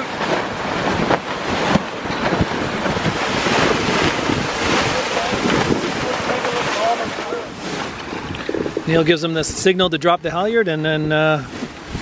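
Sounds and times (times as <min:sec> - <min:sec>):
sea rushing past boat: 0:00.0 - 0:12.0
wind buffeting microphone: 0:00.0 - 0:12.0.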